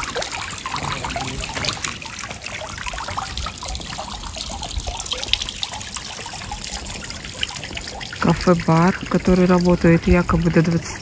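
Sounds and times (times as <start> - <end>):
fountain splashing and trickling: 0.0 - 11.0.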